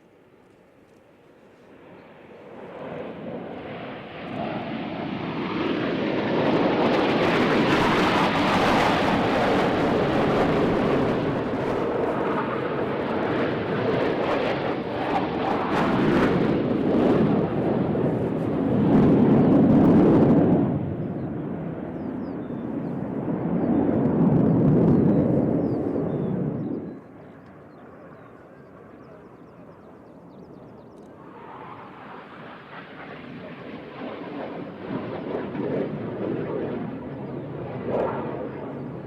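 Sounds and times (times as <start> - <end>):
jet aircraft flying past: 0.0 - 39.0.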